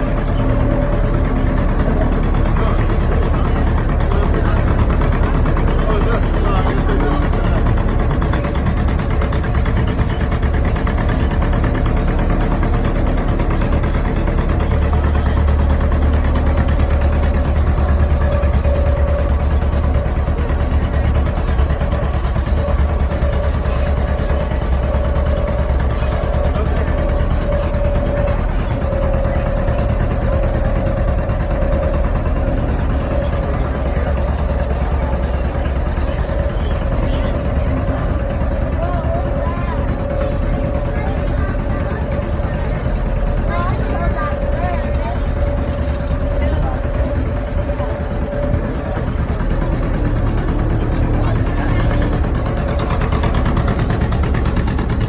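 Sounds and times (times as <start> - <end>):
thin steady whine: 0.0 - 55.0
tractor engine rumbling: 0.0 - 55.0.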